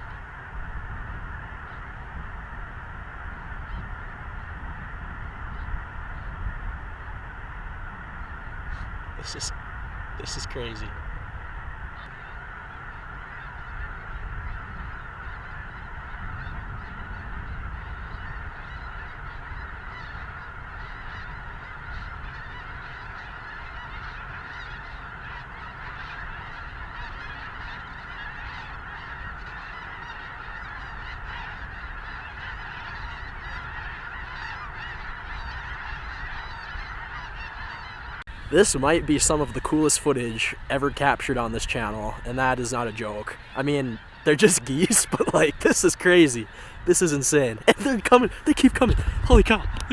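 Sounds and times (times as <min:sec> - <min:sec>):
wind rumble on microphone: 0:00.0 - 0:39.8, 0:48.4 - 0:49.9
flock of geese honking: 0:00.0 - 0:49.9.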